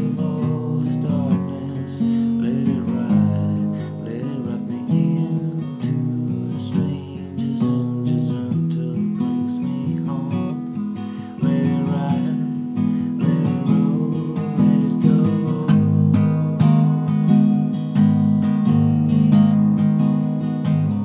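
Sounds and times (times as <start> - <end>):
acoustic guitar strumming: 0.0 - 21.0
looped layered guitar parts: 0.0 - 21.0.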